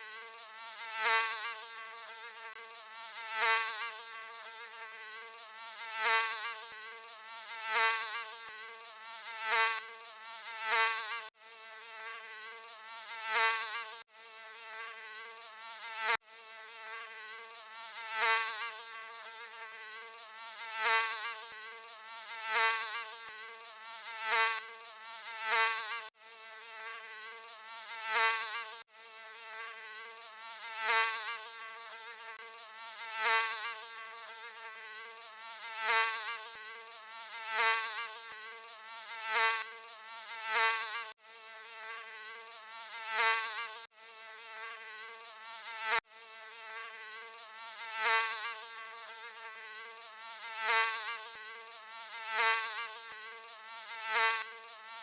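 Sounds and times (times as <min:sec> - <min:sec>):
mosquito wings buzzing: 0:00.0 - 0:55.0.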